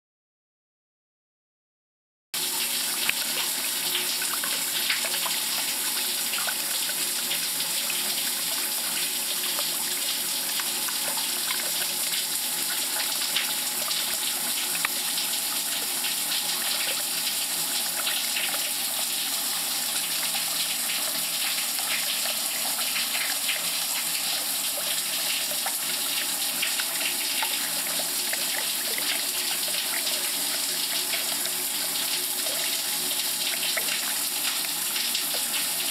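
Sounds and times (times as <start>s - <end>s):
tap water running into drain: 2.4s - 35.9s.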